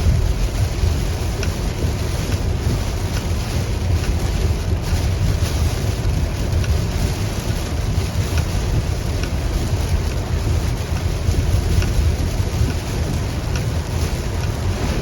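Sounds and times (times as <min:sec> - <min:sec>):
deep rumble: 0:00.0 - 0:08.3, 0:09.0 - 0:15.0
heavy rain: 0:00.0 - 0:15.0
raindrops ticking: 0:00.0 - 0:15.0
tyres on wet road: 0:00.0 - 0:15.0.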